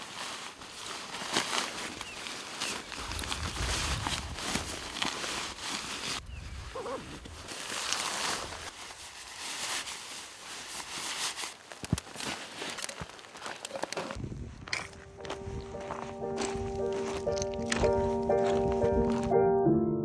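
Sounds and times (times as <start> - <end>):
nylon gear rustling and crinkling: 0.0 - 19.4.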